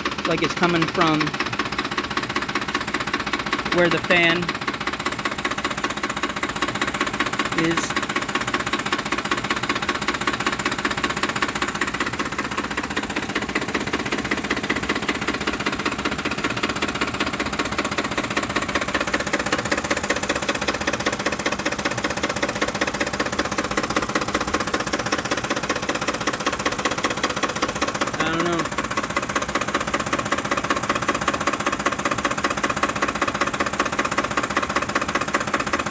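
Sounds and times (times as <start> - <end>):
engine idling roughly: 0.0 - 35.9
fast ticking knock: 0.0 - 35.9.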